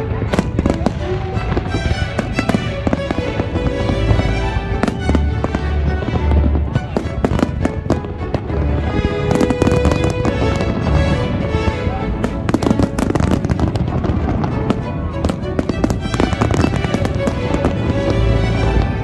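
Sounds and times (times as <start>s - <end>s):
fireworks bangs: 0.0s - 19.0s
steady music: 0.0s - 19.0s.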